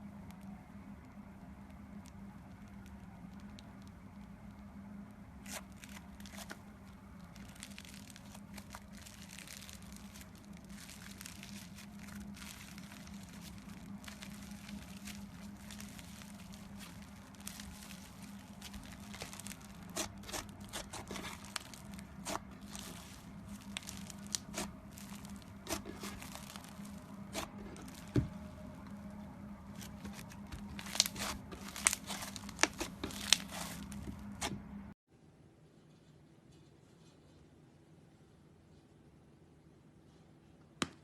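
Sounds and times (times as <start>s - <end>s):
low steady hum: 0.0s - 40.6s.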